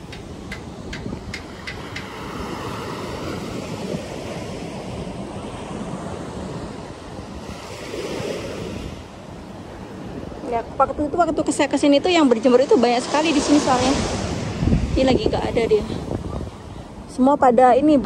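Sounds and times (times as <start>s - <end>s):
small waves on sandy beach: 0.0s - 18.0s
wind buffeting microphone: 0.0s - 18.0s.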